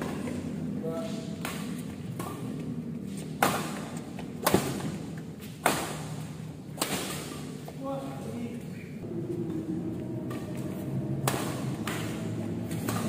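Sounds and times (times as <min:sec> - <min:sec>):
racket hitting shuttlecock: 0:00.0 - 0:00.5, 0:01.1 - 0:07.8, 0:09.5 - 0:13.0.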